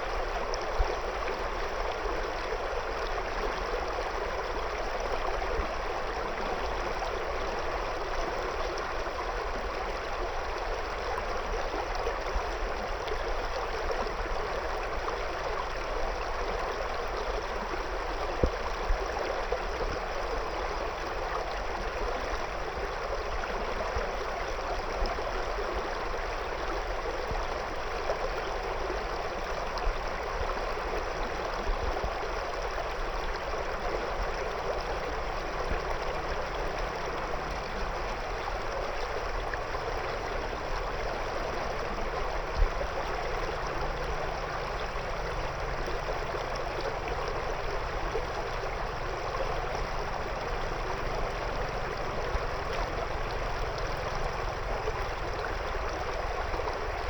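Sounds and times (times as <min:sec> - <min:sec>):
river water rushing over stones: 0:00.0 - 0:57.0
small water splashes: 0:05.3 - 0:57.0.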